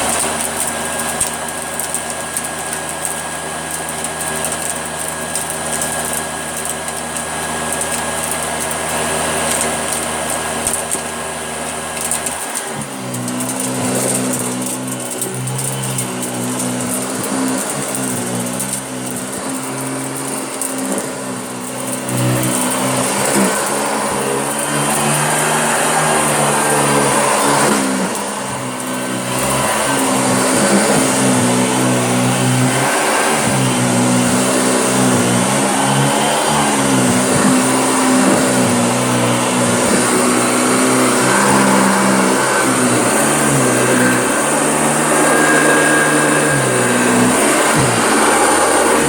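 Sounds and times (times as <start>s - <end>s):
upright vacuum cleaner running: 0.0s - 49.0s.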